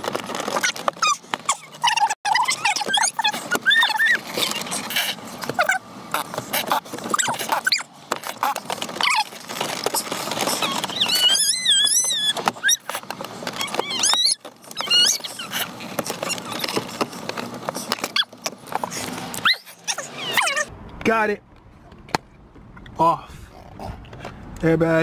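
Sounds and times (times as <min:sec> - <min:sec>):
dog whining: 0:00.4 - 0:20.7.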